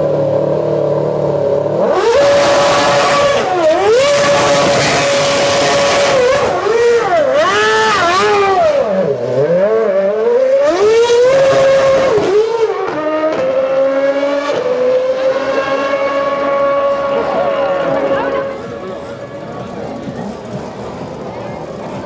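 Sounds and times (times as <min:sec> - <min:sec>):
racing engine revving: 0:00.0 - 0:22.0.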